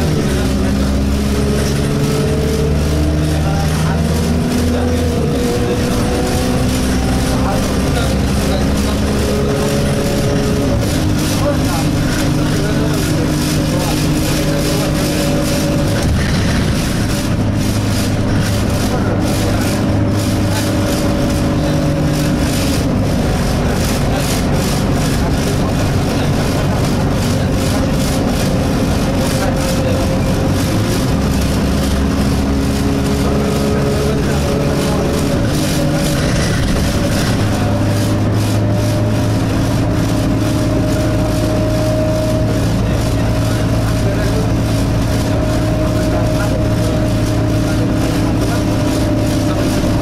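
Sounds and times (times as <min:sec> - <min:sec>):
bus engine running: 0:00.0 - 0:50.0
high vibration whine: 0:00.0 - 0:50.0.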